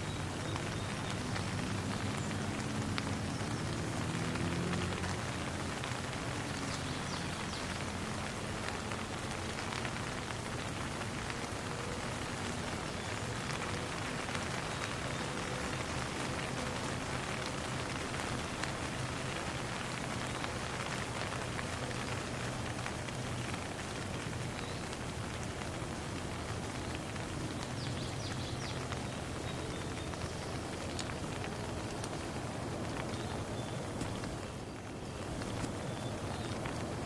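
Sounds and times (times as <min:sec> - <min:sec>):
rain falling on a pond: 0:00.0 - 0:37.0.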